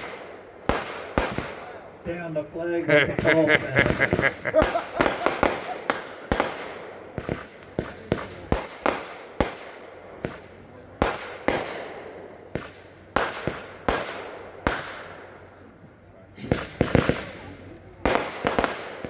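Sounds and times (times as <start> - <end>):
fireworks bangs: 0.0 - 15.6, 16.4 - 19.0.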